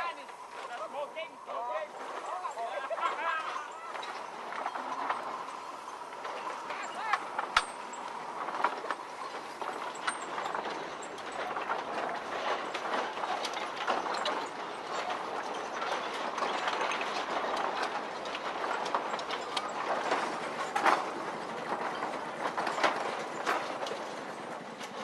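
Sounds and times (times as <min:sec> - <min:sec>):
train rumbling: 0:00.0 - 0:25.0
wheels clanking and clicking: 0:00.0 - 0:25.0.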